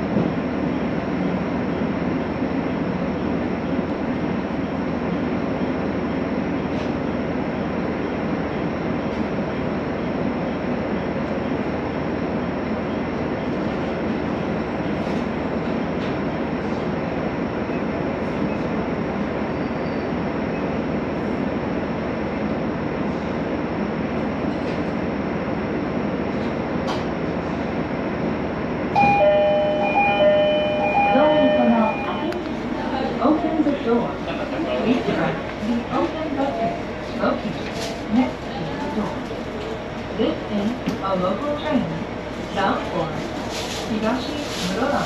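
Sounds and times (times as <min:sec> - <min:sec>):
railcar wheels and motor rumbling: 0:00.0 - 0:45.0.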